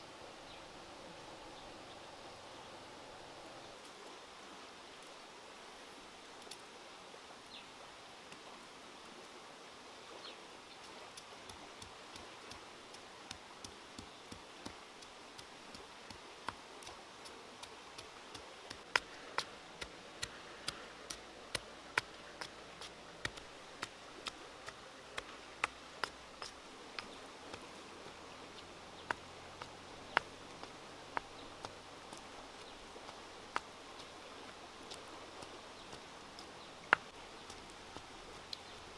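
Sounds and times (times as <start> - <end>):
faint steady hiss: 0.0 - 38.9.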